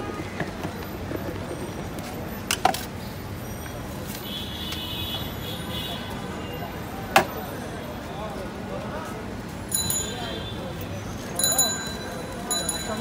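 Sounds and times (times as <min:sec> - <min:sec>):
street background hum: 0:00.0 - 0:13.0.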